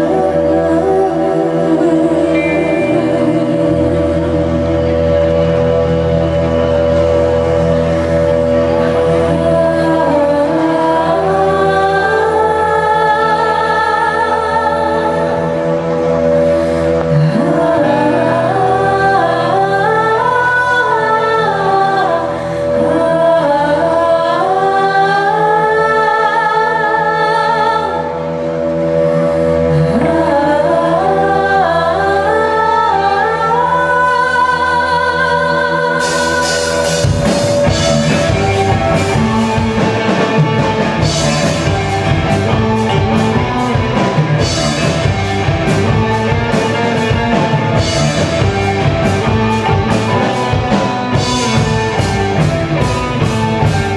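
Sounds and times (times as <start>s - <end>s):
bass guitar: 0.0s - 53.9s
drums: 0.0s - 53.9s
held chord: 0.0s - 53.9s
person singing: 0.0s - 53.9s.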